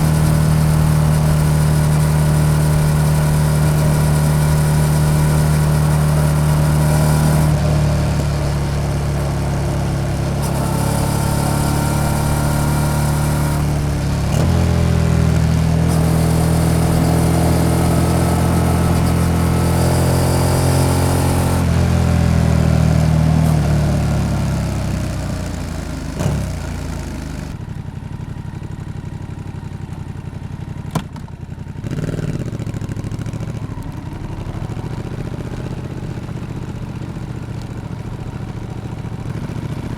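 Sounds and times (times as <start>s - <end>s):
motorcycle engine shifting gears: 0.0s - 29.2s, 29.8s - 39.9s.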